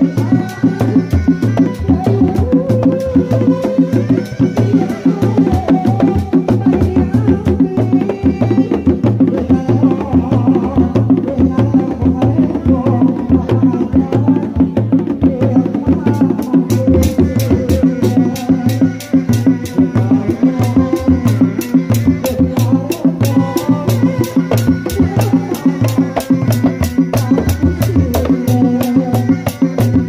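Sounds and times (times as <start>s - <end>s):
hand drums fast rhythm: 0.0s - 30.0s.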